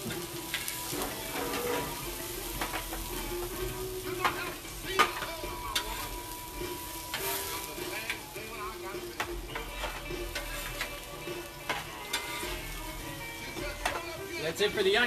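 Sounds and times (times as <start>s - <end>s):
metal spatula scraping griddle: 0.0s - 15.0s
onions sizzling on a griddle: 0.0s - 15.0s.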